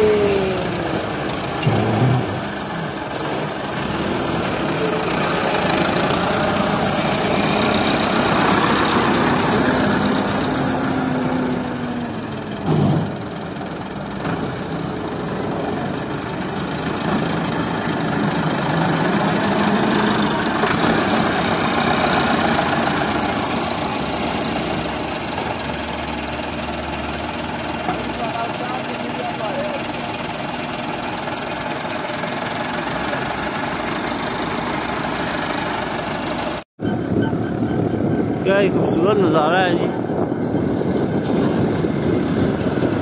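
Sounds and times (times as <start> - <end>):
diesel tractor engine revving: 0.0 - 43.0.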